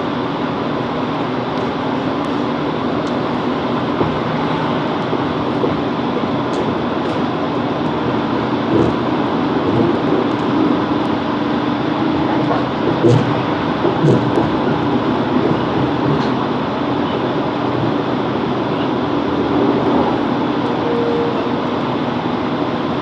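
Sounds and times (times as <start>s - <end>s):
train engine drone: 0.0s - 23.0s
wheel and rail noise: 0.0s - 23.0s.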